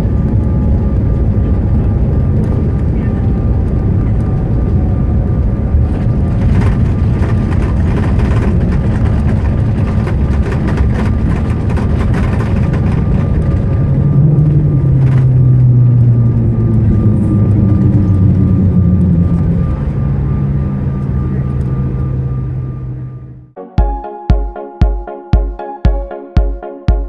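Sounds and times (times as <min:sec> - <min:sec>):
aircraft cabin rumble: 0:00.0 - 0:23.6.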